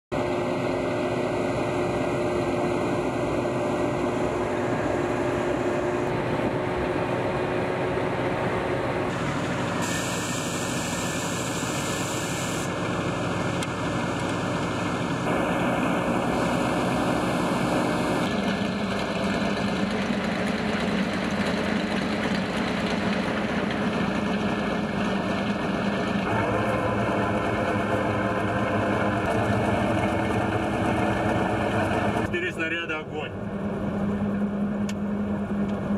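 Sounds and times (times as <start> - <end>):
truck engine idling: 0.2 - 35.9.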